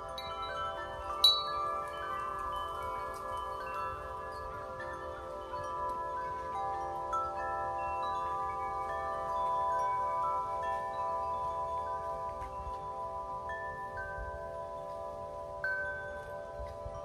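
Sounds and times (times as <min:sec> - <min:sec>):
chimes ringing: 0:00.0 - 0:17.0.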